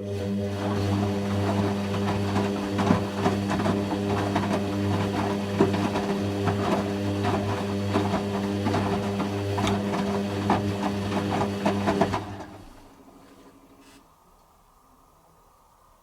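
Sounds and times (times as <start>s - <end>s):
washing machine pump humming: 0.0s - 13.9s.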